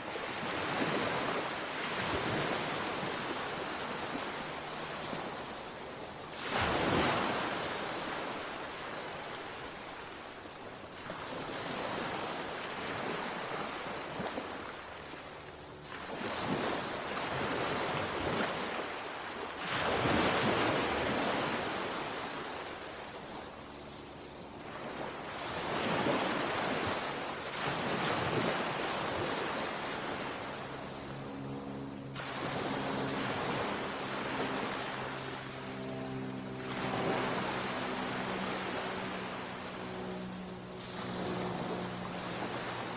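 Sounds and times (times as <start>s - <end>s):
sea waves washing onto shore: 0.0s - 42.9s.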